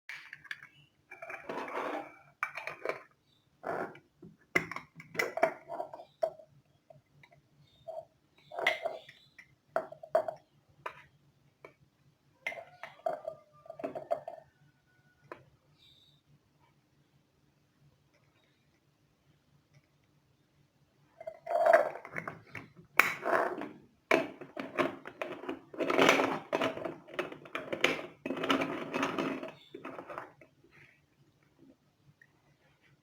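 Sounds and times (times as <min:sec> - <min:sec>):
faint steady hum: 0:00.1 - 0:33.0.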